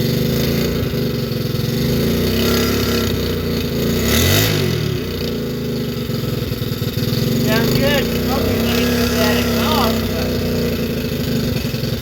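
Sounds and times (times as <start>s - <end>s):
small motorcycle engine revving: 0.0s - 12.0s.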